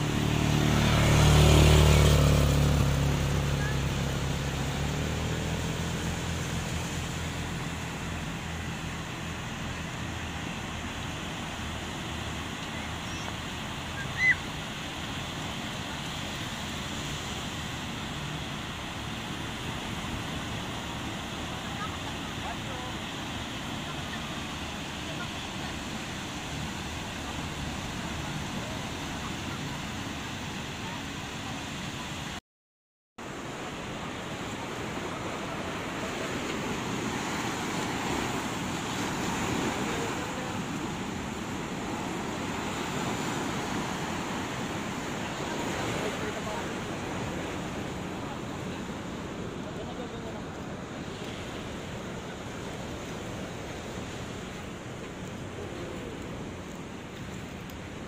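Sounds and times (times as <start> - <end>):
waves breaking on beach: 0.0 - 32.4, 33.2 - 58.0.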